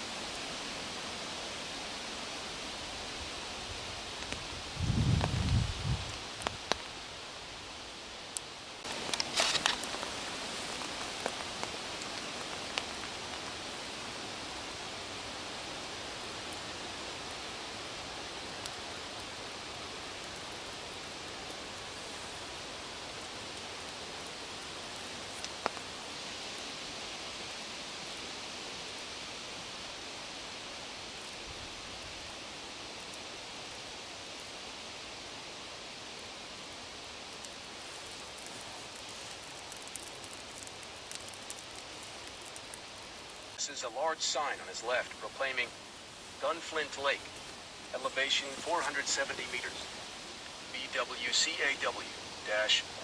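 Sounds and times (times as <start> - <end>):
stove fire hissing: 0.0 - 53.0
wood fire crackling and popping: 0.0 - 53.0.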